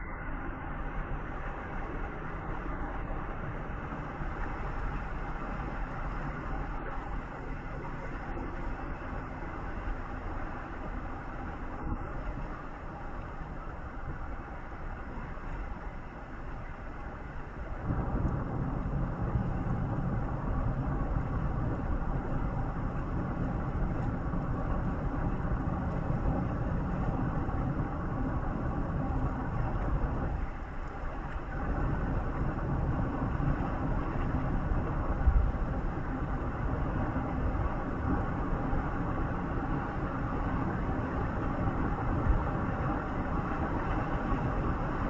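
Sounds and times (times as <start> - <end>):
road vehicle rumble: 0.0 - 45.0.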